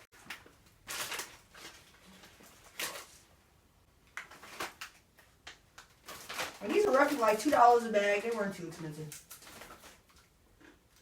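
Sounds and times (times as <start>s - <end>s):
potato chips crackling: 0.0s - 3.2s, 4.1s - 11.0s.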